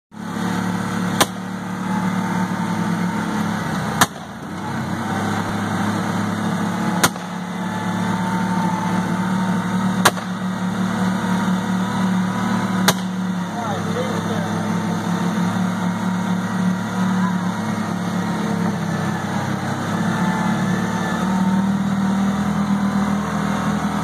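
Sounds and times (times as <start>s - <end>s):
vehicle engine running: 0.1s - 24.0s.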